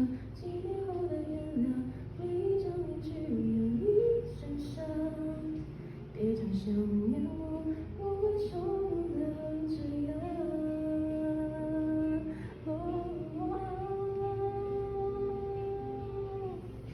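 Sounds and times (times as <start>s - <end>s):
woman singing wordless melody: 0.0s - 16.9s.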